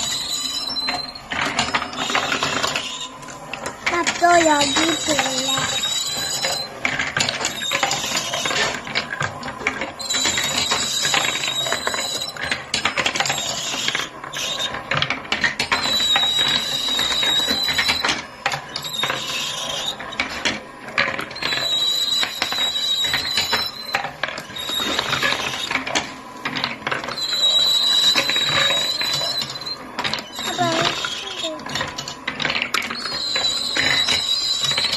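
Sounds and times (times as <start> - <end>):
high ringing whir: 0.0 - 20.5, 21.2 - 34.9
marbles rattling down wooden track: 0.0 - 34.9.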